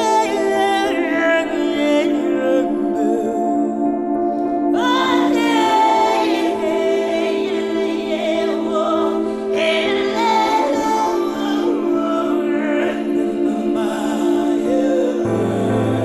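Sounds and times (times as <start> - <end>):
high wordless singing voice: 0.0 - 16.0
music with held chords: 0.0 - 16.0.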